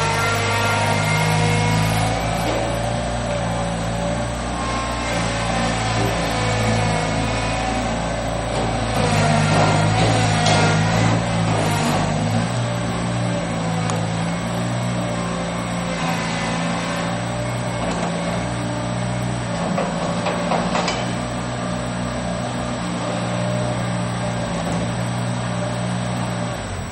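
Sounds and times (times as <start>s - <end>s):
loader engine running: 0.0s - 26.9s.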